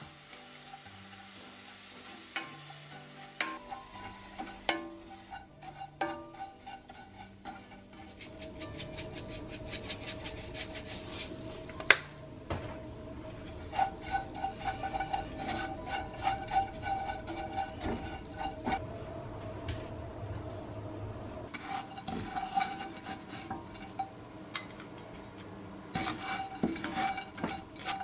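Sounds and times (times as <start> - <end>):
wooden spoon scraping a frying pan: 0.0 - 11.7, 13.3 - 18.8, 21.5 - 28.0
soft background music: 0.0 - 28.0.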